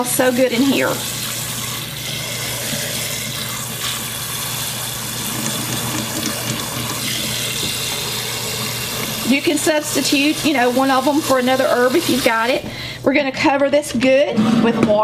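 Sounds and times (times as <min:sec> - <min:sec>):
faucet water pouring into a pot: 0:00.0 - 0:12.5.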